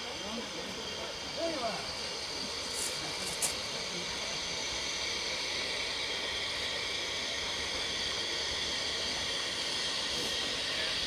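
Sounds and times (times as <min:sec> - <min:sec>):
steam engine hissing: 0:00.0 - 0:11.0.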